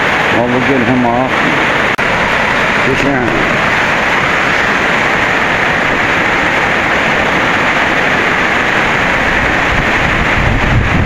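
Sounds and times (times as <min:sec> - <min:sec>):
rain falling: 0:00.0 - 0:11.0
wind buffeting microphone: 0:00.0 - 0:11.0.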